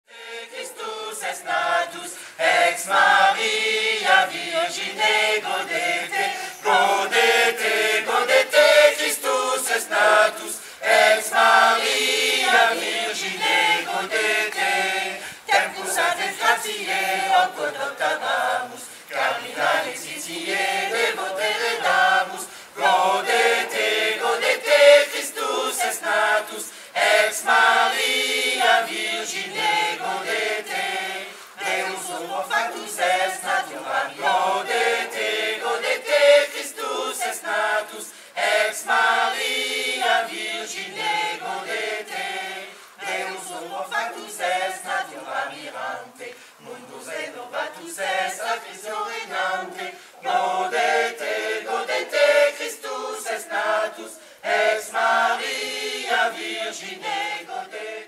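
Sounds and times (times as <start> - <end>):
choir singing a carol: 0.0 - 58.0.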